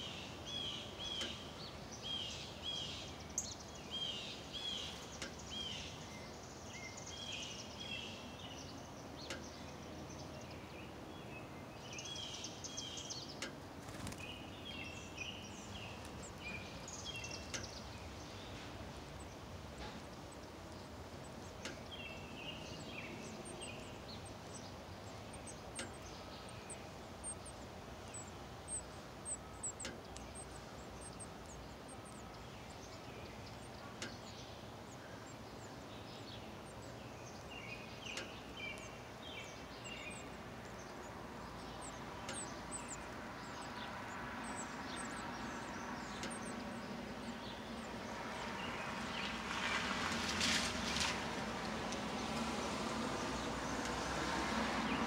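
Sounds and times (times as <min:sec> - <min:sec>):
birds chirping: 0:00.0 - 0:55.0
steady background hiss: 0:00.0 - 0:55.0.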